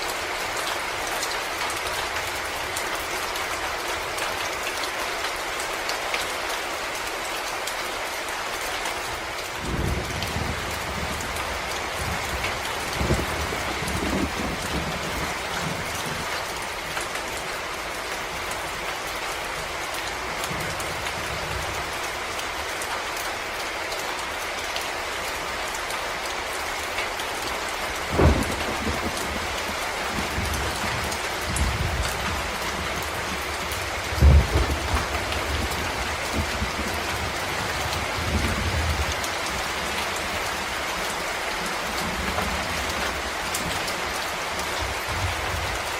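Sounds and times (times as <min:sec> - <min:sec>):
rain on leaves: 0:00.0 - 0:45.9.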